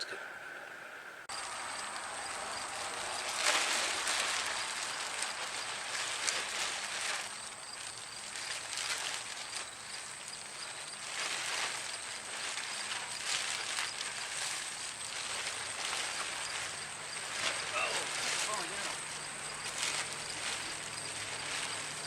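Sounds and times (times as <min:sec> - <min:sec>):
plastic tarp rustling and crinkling: 0:01.3 - 0:22.0.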